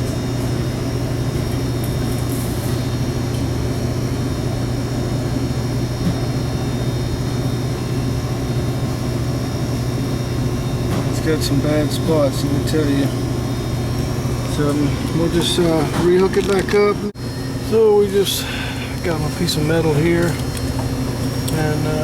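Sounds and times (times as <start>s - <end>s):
machinery low drone: 0.0s - 22.0s.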